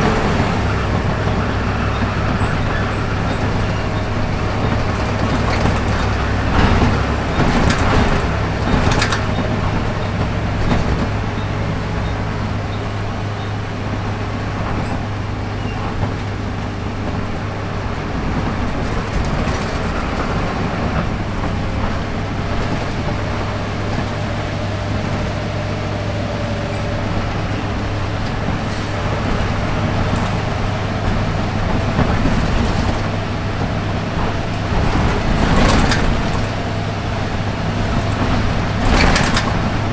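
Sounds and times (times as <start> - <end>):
bus body knocks and rattles: 0.0 - 39.9
bus engine hum: 0.0 - 39.9
road noise: 0.0 - 39.9.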